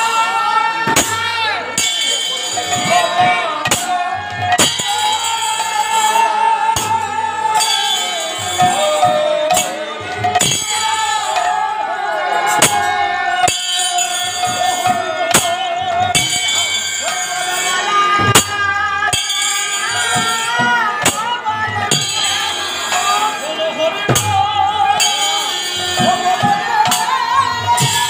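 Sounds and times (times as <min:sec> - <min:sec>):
jingling hand cymbals: 0:00.0 - 0:28.0
person singing devotional chant: 0:00.0 - 0:28.0.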